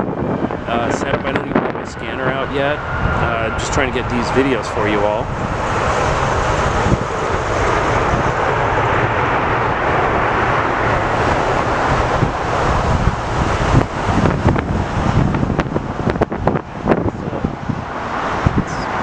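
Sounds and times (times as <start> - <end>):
jet airliner engine rush: 0.0 - 19.0
wind buffeting microphone: 0.0 - 19.0.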